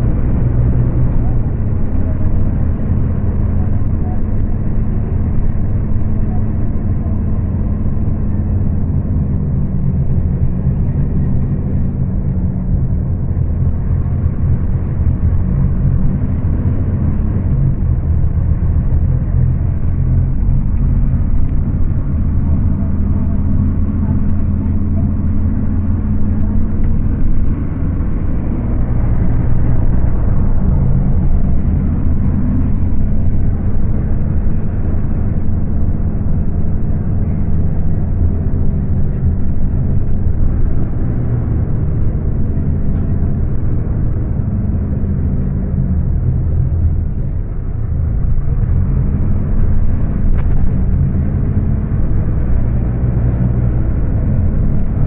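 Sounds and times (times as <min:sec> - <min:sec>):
bus diesel engine revving: 0:00.0 - 0:55.0.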